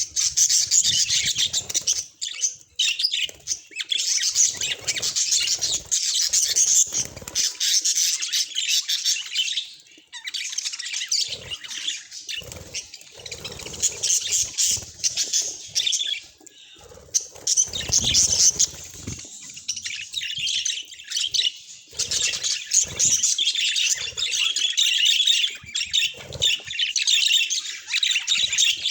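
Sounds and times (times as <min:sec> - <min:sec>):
budgerigars chattering and warbling: 0:00.0 - 0:28.9.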